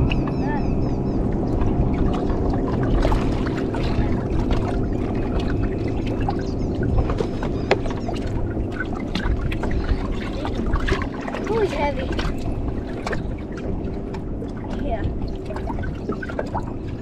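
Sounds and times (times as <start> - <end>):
steady low hum: 0.0 - 17.0
water splashing against boat hull: 0.0 - 17.0
sharp splashes and clicks: 1.3 - 17.0.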